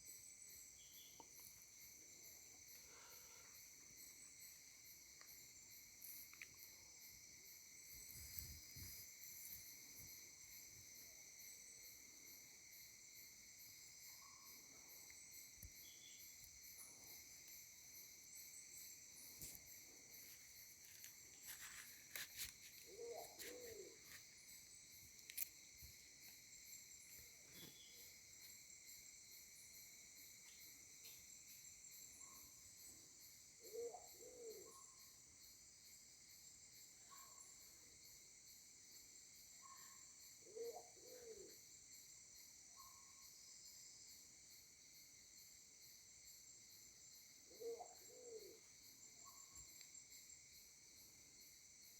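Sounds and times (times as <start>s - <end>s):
insects buzzing: 0.0s - 51.9s.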